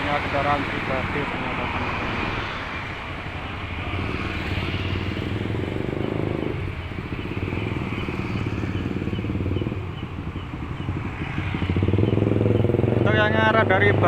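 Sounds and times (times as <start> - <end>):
road traffic passing: 0.0 - 14.0
vehicle passing by: 0.0 - 14.0.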